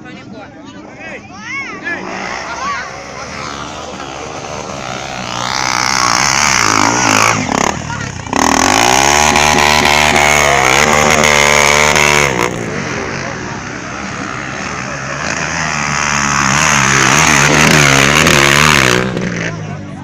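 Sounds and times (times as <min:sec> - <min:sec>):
motorcycle engine revving: 0:01.8 - 0:20.0.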